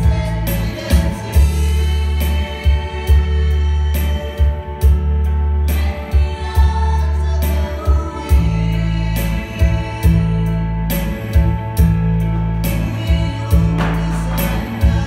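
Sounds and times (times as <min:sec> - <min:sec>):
person singing into a microphone: 0:00.0 - 0:04.6, 0:05.7 - 0:11.1, 0:12.7 - 0:15.0
electronic keyboard accompaniment: 0:00.0 - 0:15.0.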